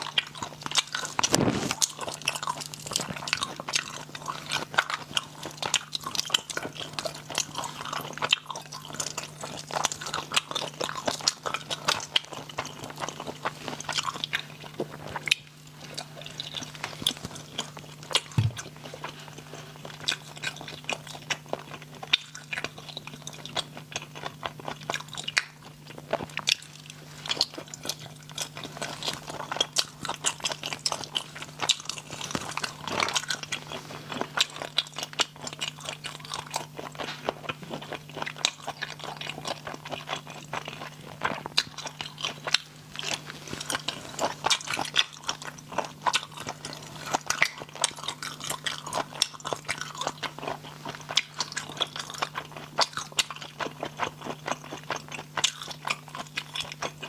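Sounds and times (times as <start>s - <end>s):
crunching and chewing: 0.0s - 57.0s
steady low hum: 0.0s - 57.0s.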